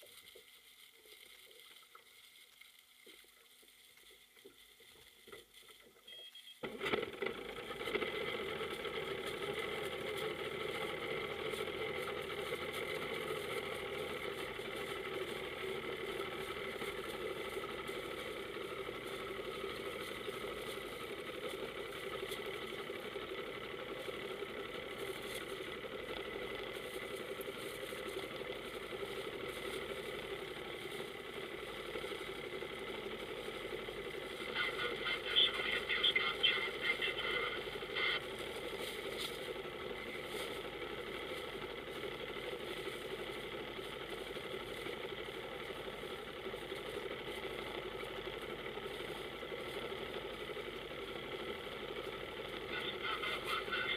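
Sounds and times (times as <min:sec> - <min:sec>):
motorboat engine droning: 0:00.0 - 0:53.9.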